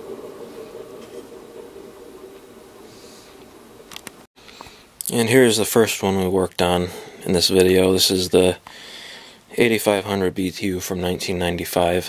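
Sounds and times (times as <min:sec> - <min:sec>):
faint refrigerant noise: 0:00.0 - 0:12.0.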